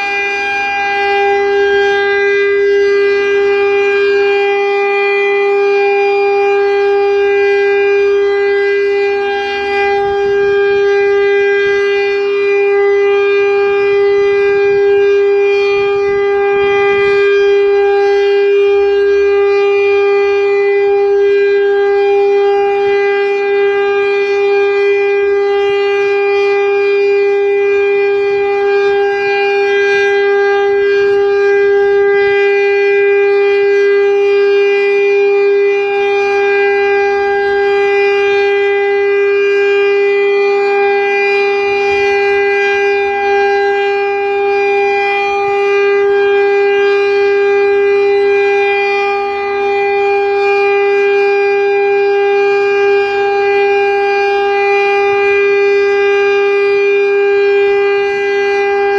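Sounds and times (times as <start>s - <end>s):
warning siren steady tone: 0.0s - 58.9s.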